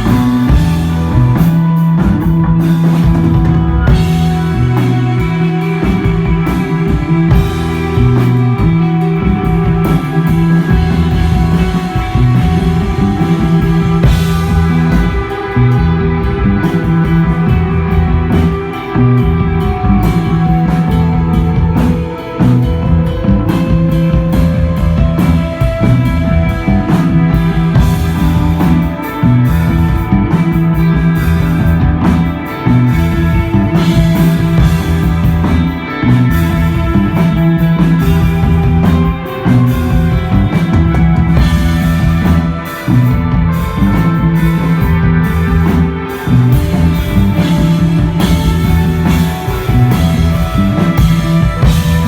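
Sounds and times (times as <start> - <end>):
drum kit: 0.0 - 52.0
electric guitar: 0.0 - 52.0
heavy bass riff: 0.0 - 52.0.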